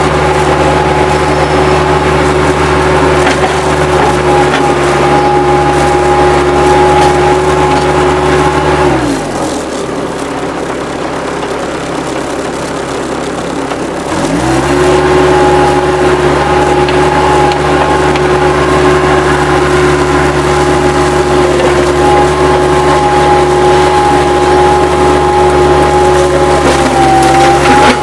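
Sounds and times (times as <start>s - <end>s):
diesel engine revving: 0.0s - 28.0s
steady whine: 0.0s - 28.0s.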